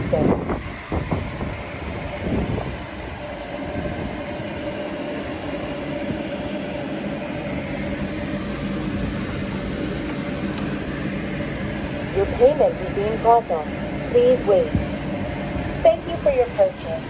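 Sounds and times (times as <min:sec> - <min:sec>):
low rumble: 0:00.0 - 0:17.0
mechanical hum with whine: 0:00.0 - 0:17.0.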